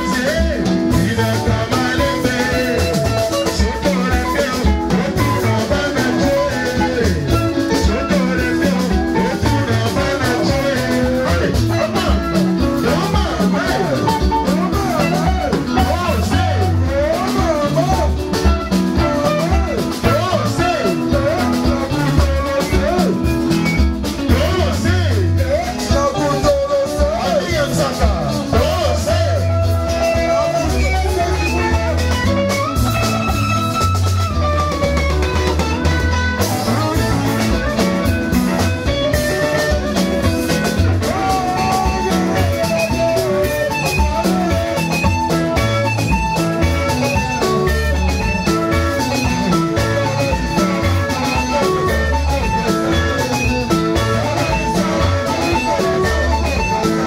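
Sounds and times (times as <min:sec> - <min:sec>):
bass: 0:00.0 - 0:57.0
drums: 0:00.0 - 0:57.0
electric lead guitar: 0:00.0 - 0:57.0.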